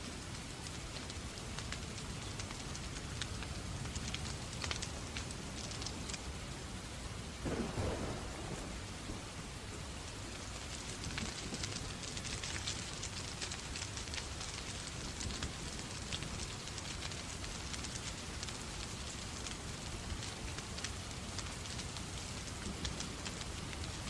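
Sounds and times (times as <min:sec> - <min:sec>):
fireplace fire crackling: 0:00.0 - 0:24.0
steady rain: 0:00.0 - 0:24.0.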